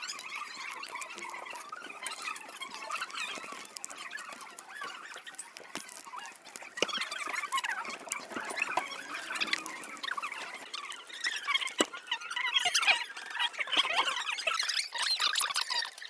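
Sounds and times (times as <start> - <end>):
paper crinkling: 0.0 - 14.5.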